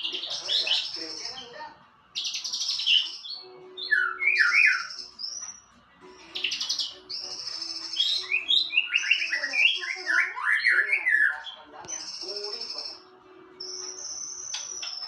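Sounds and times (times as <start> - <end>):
songbird singing trills and whistles: 0.0 - 15.0.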